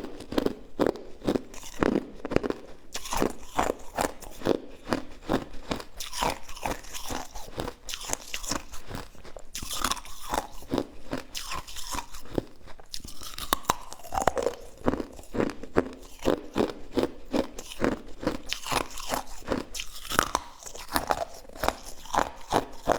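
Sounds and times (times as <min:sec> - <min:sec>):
chewing crunchy food: 0:00.0 - 0:22.9.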